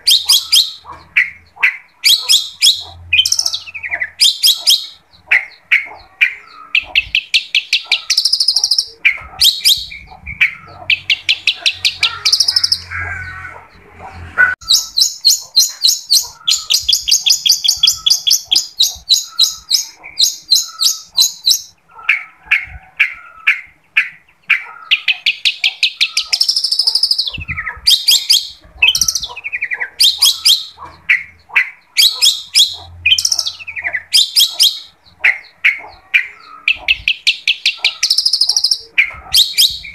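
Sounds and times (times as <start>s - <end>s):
shrike singing with trills: 0.0s - 39.9s.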